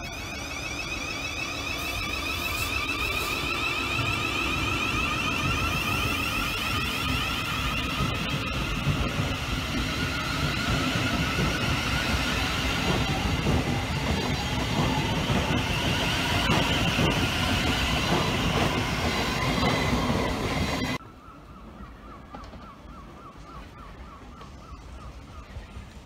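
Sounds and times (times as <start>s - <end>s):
train traction motors whining: 0.0s - 21.0s
wheel-on-rail noise with clicks: 0.0s - 21.0s, 22.2s - 26.0s.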